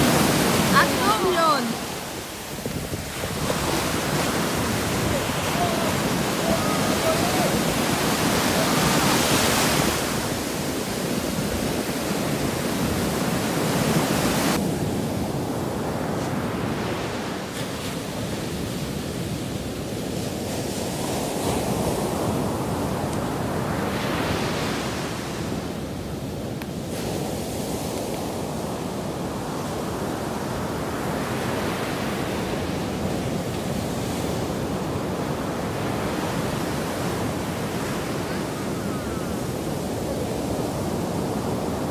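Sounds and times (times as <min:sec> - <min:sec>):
waves breaking on sand: 0:00.0 - 0:41.9.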